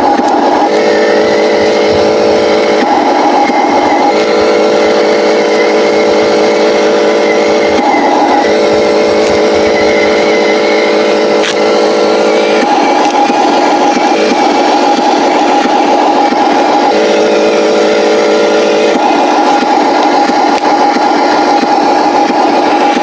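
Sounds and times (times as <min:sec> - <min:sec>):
faint high whine: 0:00.0 - 0:23.0
model truck engine drone: 0:00.0 - 0:23.0.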